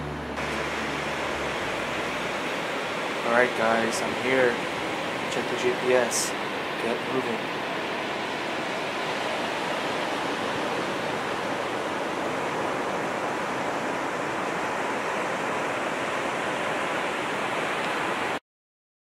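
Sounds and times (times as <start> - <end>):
ocean surf breaking on a beach: 0.0 - 18.4.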